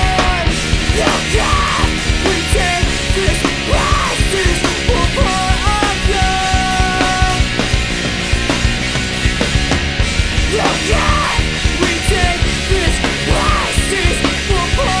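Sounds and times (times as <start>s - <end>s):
punk rock song: 0.0s - 15.0s.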